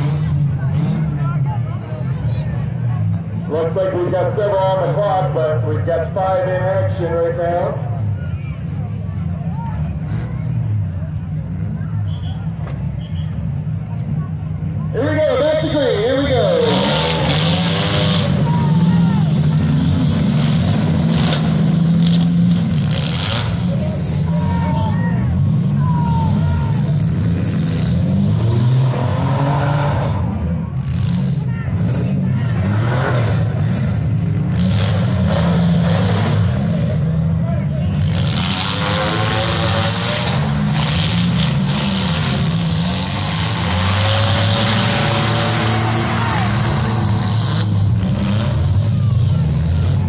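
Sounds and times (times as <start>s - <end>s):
car engines revving: 0.0s - 50.0s.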